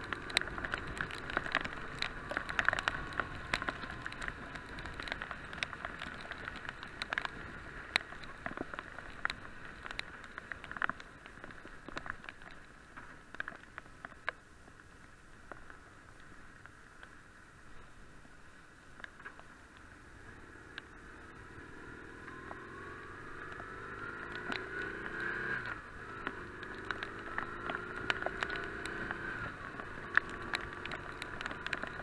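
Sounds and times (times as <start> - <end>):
raindrops tapping on camera housing: 0.0 - 32.0.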